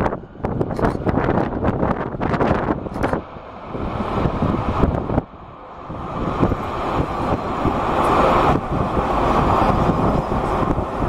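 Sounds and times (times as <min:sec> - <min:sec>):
jet engines rolling: 0:00.0 - 0:11.0
wind buffeting microphone: 0:00.0 - 0:11.0.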